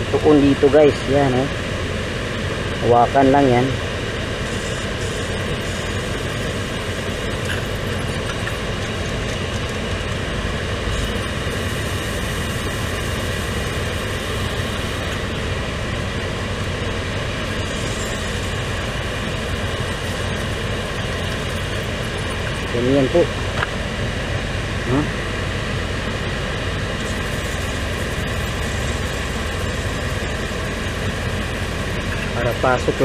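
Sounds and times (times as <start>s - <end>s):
car blower fan whirring: 0.0s - 33.0s.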